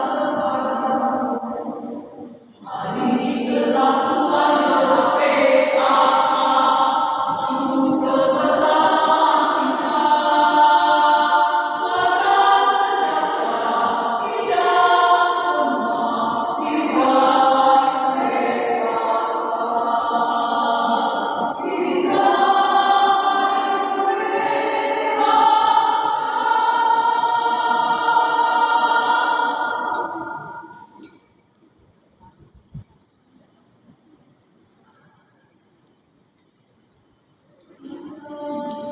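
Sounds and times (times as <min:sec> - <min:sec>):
women's choir singing: 0:00.0 - 0:31.3, 0:37.7 - 0:38.9.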